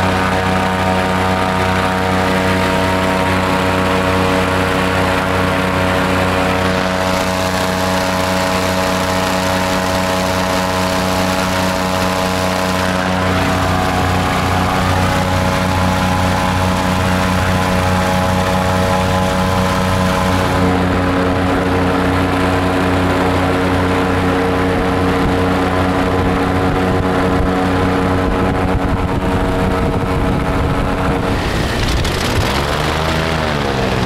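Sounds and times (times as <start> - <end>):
airboat engine and propeller running: 0.0 - 34.0.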